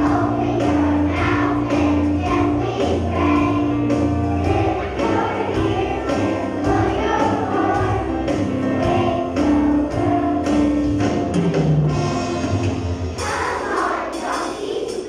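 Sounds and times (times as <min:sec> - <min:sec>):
young children singing: 0:00.0 - 0:11.3, 0:13.1 - 0:15.0
accompanying music: 0:00.0 - 0:15.0.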